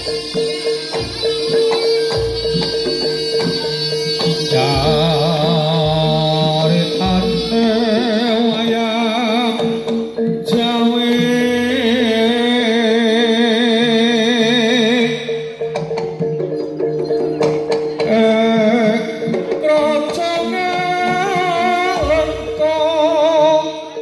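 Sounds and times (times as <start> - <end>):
percussion strokes: 0.0 - 24.0
wavering vibrato melody: 0.0 - 24.0.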